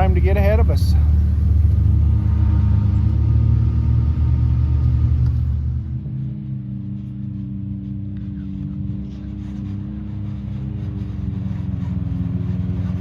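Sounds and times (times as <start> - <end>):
engine running and idling: 0.0 - 13.0.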